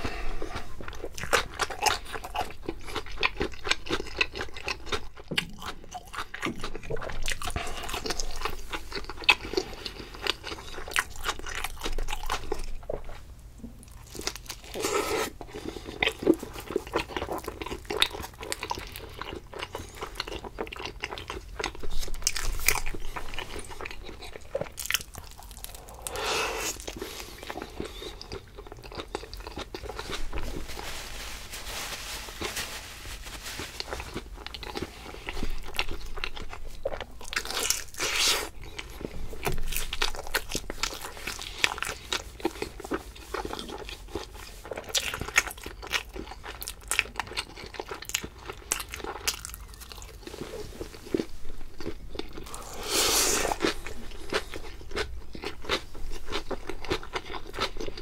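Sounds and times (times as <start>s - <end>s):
biting chewing and crunching food: 0.0s - 30.9s, 33.7s - 58.0s.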